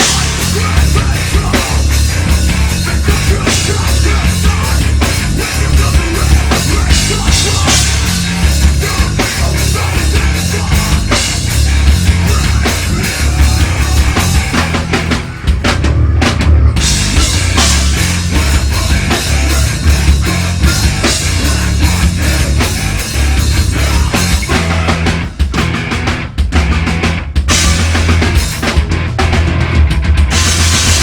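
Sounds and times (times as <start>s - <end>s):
heavy metal band playing: 0.0s - 31.0s
pounding drum kit: 0.0s - 31.0s.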